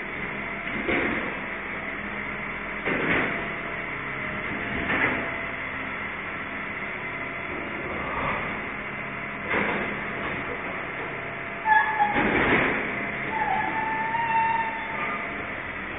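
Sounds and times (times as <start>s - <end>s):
garbage truck engine and machinery: 0.0s - 15.9s.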